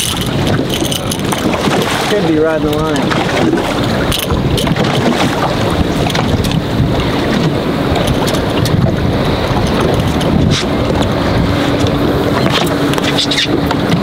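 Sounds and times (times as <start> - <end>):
waves lapping: 0.0 - 14.0
wind buffeting microphone: 0.0 - 14.0.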